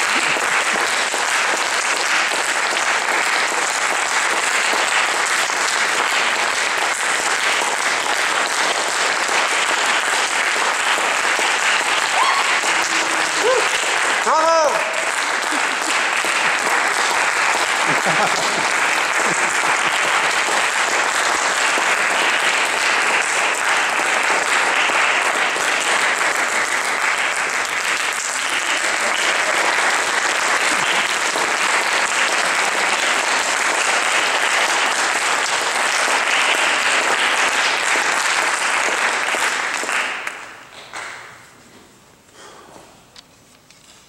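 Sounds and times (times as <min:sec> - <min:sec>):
audience applauding: 0:00.0 - 0:41.4.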